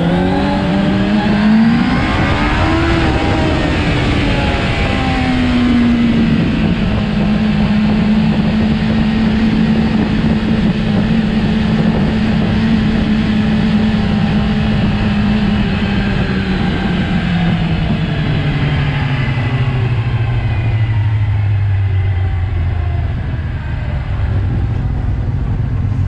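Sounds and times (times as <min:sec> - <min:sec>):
wind rushing: 0:00.0 - 0:21.9
motorcycle engine cruising: 0:00.0 - 0:26.0.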